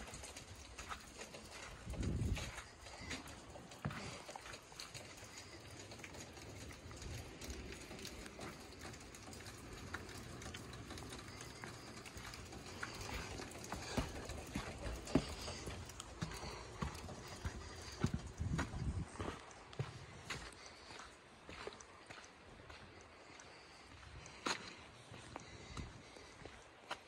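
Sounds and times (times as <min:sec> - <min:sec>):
footsteps on wood and snow: 0:00.0 - 0:27.0.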